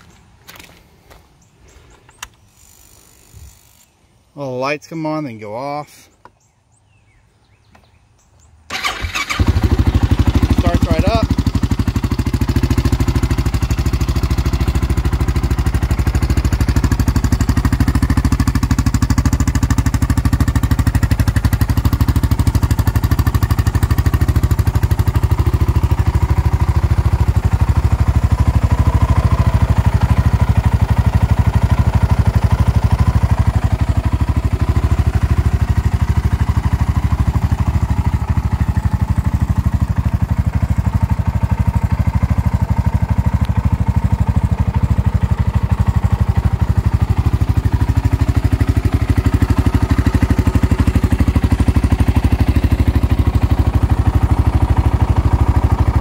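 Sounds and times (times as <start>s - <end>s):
quad bike engine idling: 8.7s - 56.0s.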